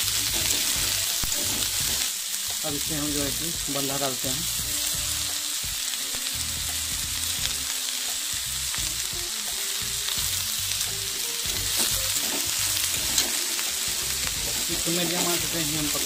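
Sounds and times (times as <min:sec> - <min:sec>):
spatula turning vegetables: 0:00.0 - 0:16.0
vegetables sizzling in hot oil: 0:00.0 - 0:16.0.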